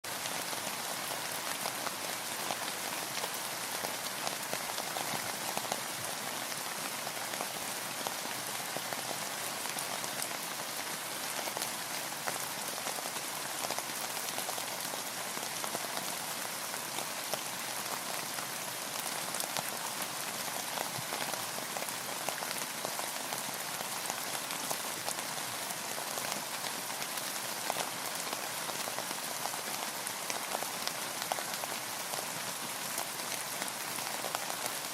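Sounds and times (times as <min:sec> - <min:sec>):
rain falling on a boat: 0:00.1 - 0:34.9.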